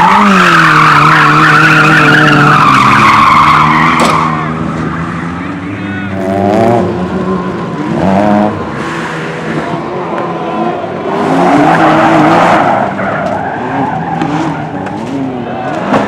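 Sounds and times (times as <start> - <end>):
race car engine revving: 0.0 - 16.0
tyres skidding: 0.0 - 16.0.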